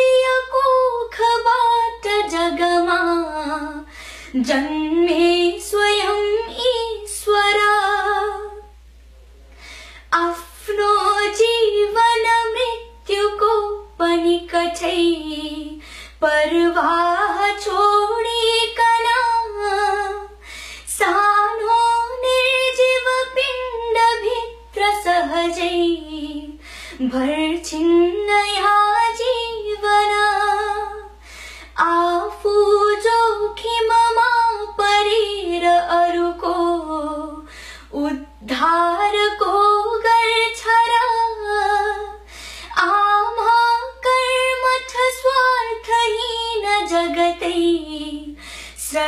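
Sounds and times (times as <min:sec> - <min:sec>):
woman singing unaccompanied: 0:00.0 - 0:08.8, 0:10.1 - 0:49.0.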